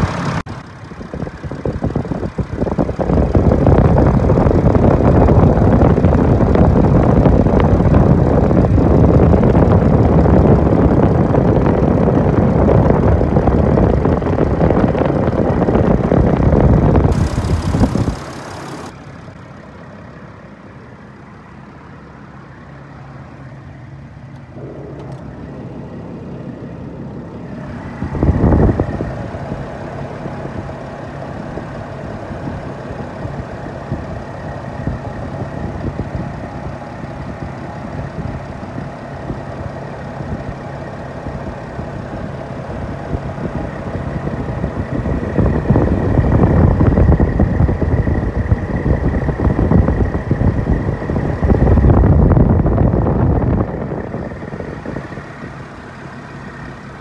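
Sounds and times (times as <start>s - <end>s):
alternator belt whine: 0.0s - 57.0s
van engine running: 0.0s - 57.0s.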